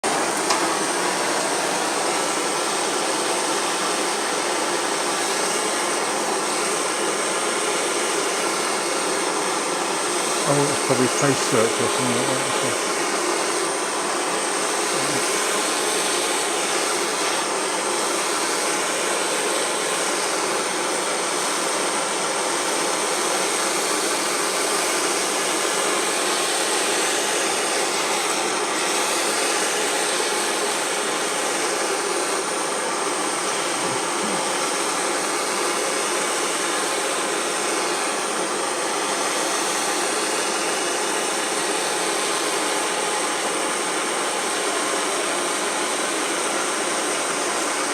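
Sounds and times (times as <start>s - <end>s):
blowtorch flame hissing: 0.0s - 47.9s.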